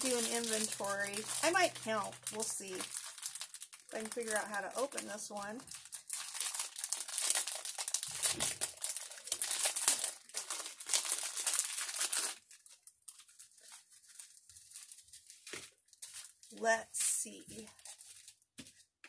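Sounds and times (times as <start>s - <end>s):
plastic bag crinkling: 0.0s - 18.9s.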